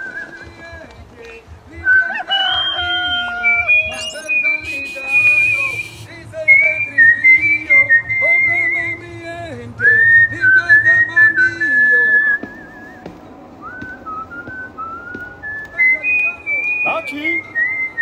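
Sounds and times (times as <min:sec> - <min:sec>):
person whistling a tune: 0:01.8 - 0:08.9, 0:09.8 - 0:18.0.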